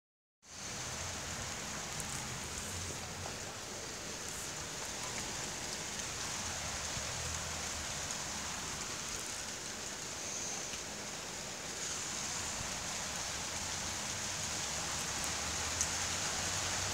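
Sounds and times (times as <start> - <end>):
steady rain: 0.4 - 16.9.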